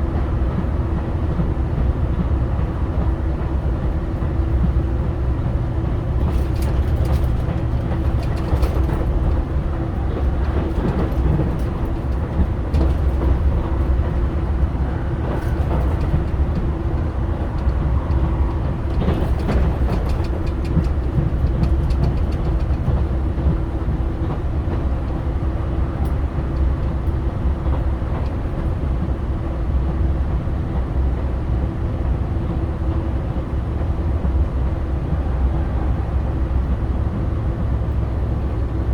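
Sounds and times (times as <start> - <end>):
constant hum: 0.0 - 38.9
train engine and wheels rumbling: 0.0 - 38.9.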